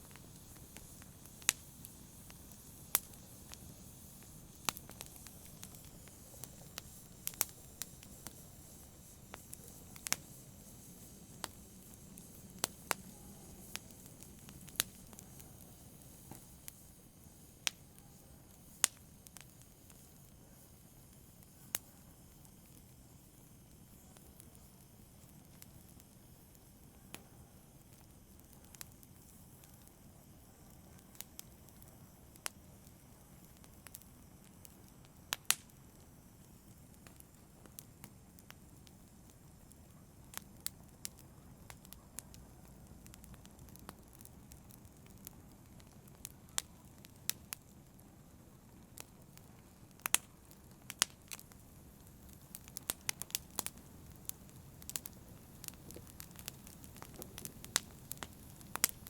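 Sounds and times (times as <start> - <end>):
soft low hiss: 0.0 - 59.0
wood fire crackling: 0.0 - 59.0.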